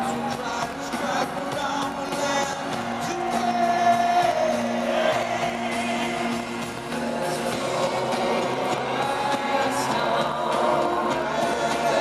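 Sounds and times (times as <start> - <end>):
live pop band with male vocal: 0.0 - 12.0.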